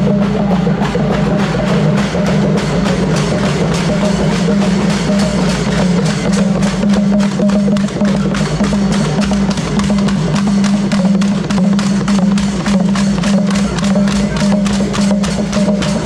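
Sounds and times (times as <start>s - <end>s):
hand drums beaten: 0.0s - 16.0s.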